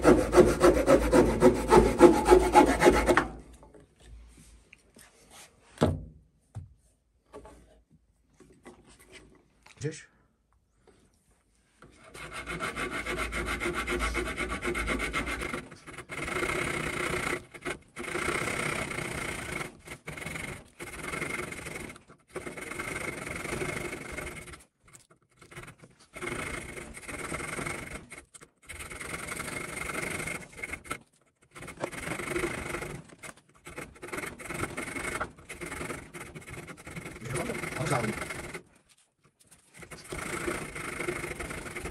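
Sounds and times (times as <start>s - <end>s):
saw blade rasping through wood: 0.0s - 3.6s, 11.9s - 41.9s.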